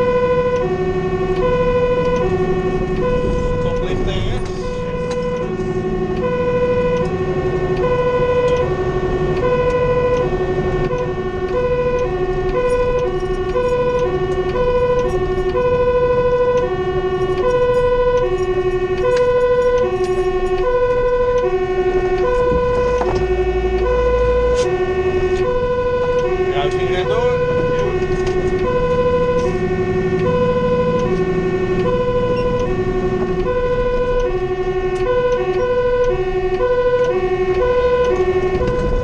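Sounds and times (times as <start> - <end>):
truck engine rumble and road noise: 0.0 - 39.0
two-tone siren: 0.0 - 39.0.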